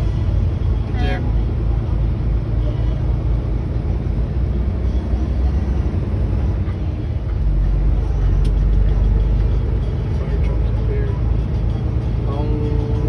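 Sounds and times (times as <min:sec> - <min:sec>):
car road rumble from inside: 0:00.0 - 0:13.0.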